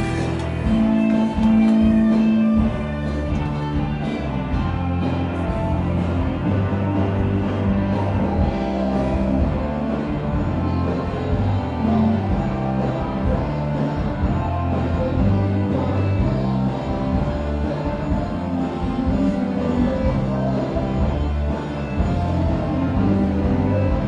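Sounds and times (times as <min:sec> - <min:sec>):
background guitar music: 0:00.0 - 0:24.0.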